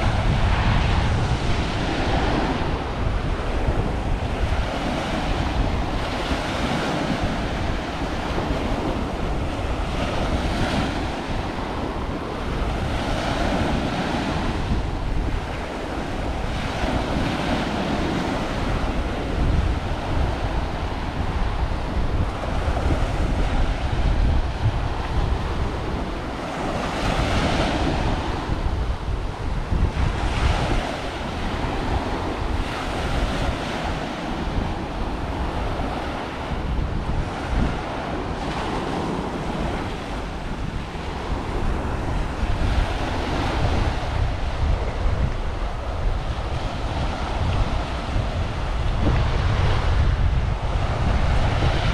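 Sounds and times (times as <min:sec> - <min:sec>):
waves breaking on beach: 0:00.0 - 0:51.9
wind rumbling on microphone: 0:00.0 - 0:51.9.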